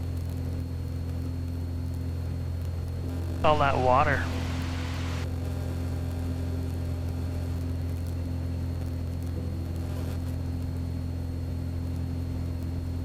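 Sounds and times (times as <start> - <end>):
faint high whine: 0.0 - 13.0
propeller airplane engine droning: 0.0 - 13.0.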